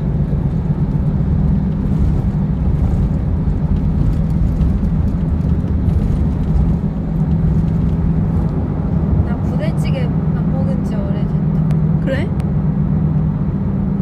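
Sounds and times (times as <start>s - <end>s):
van road and engine rumble: 0.0s - 14.0s.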